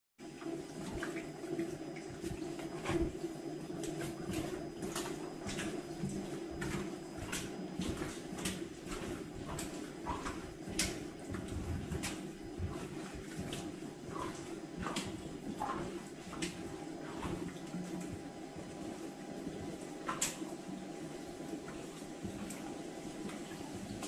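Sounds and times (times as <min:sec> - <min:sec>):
steady low hum: 0:00.2 - 0:24.0.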